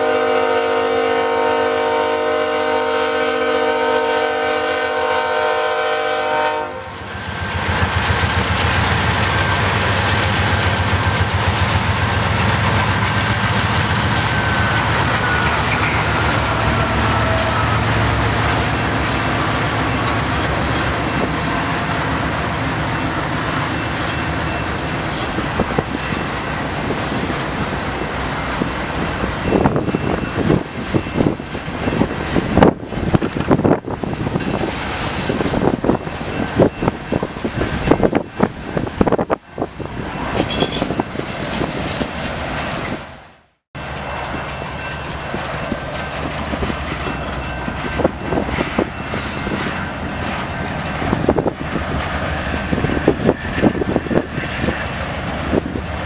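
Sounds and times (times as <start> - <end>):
diesel locomotive engines humming: 0.0 - 56.0
wheels clanking over rail joints: 7.3 - 43.2, 43.8 - 56.0.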